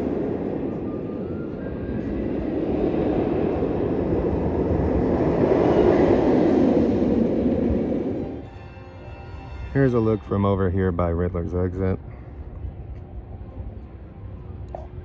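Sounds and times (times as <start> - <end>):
roller coaster train roaring: 0.0 - 12.9.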